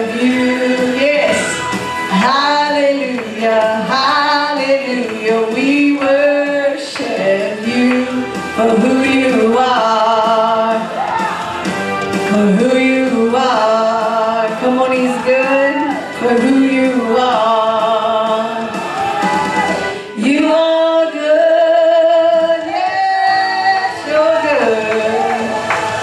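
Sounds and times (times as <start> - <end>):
woman singing into microphone: 0.0 - 11.1, 12.3 - 18.8, 19.9 - 25.7.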